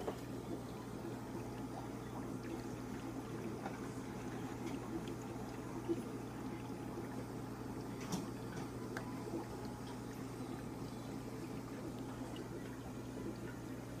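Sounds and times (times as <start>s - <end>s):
filter low hum: 0.0s - 14.0s
water trickling and bubbling: 0.0s - 14.0s.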